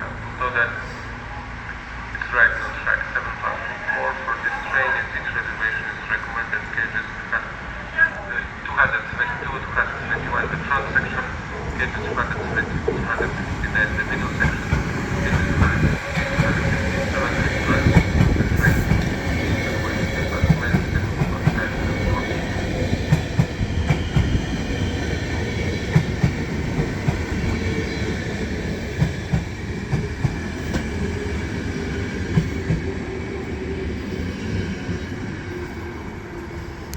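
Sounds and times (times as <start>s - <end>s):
train rail rumble: 0.0s - 36.9s.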